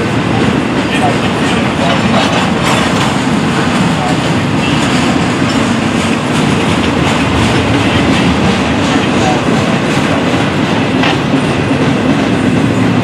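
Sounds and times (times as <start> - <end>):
steel wheels on rail: 0.0 - 13.0
train clatter: 0.0 - 13.0.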